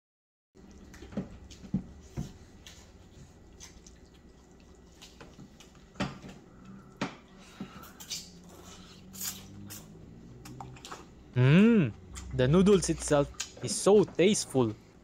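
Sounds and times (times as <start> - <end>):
slurping and chewing: 0.6 - 14.6.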